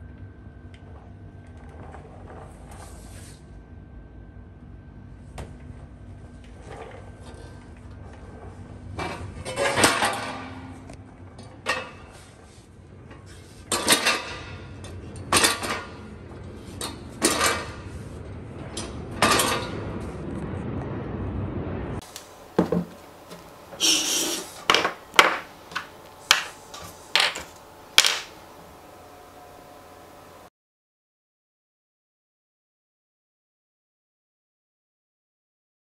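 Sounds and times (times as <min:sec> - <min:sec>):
low hum: 0:00.0 - 0:30.5.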